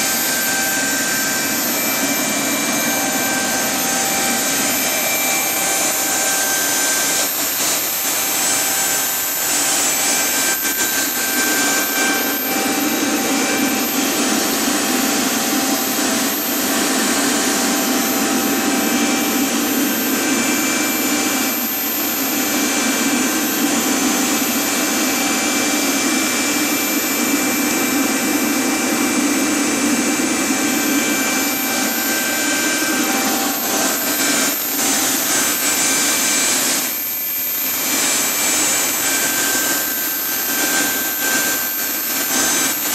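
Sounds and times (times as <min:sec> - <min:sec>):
gas turbine rushing exhaust: 0:00.0 - 0:42.9
turbine whine: 0:00.0 - 0:42.9.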